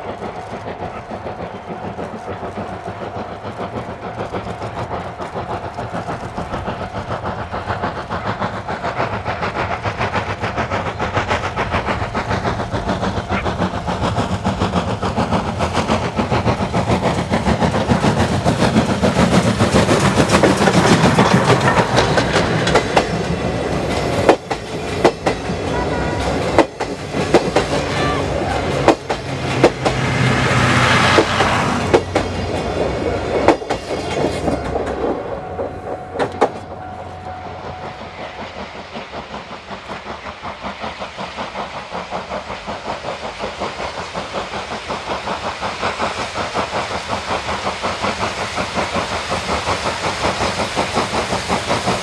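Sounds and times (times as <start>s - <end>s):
steam locomotive chuffing: 0.0s - 52.0s.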